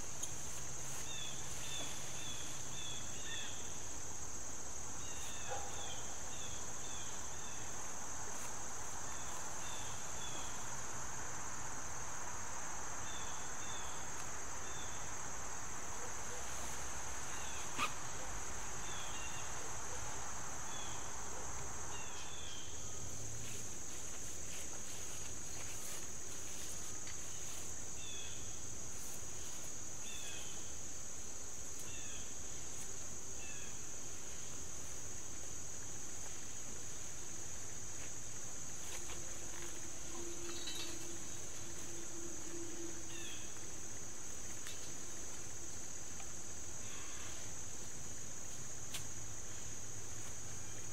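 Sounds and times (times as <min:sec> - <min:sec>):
high-pitched insect chorus: 0:00.0 - 0:50.9
soft hiss: 0:00.0 - 0:50.9.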